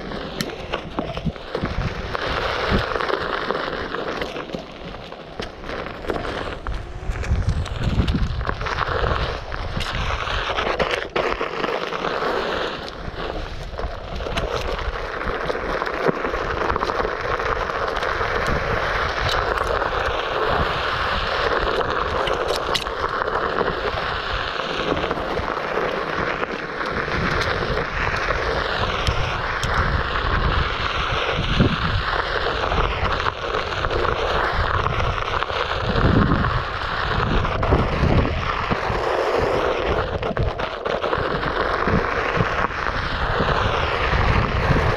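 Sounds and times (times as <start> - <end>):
wind buffeting the microphone: 0.0 - 4.0, 4.8 - 11.2, 12.7 - 44.9
small crackles and clicks: 0.0 - 44.9
tyre rolling on a dirt trail: 0.0 - 44.9.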